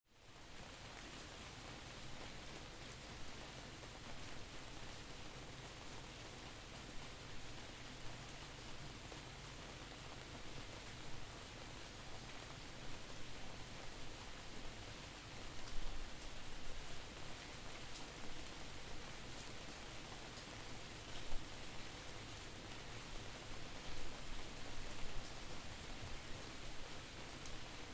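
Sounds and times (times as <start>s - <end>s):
steady rain falling: 0.2s - 27.9s.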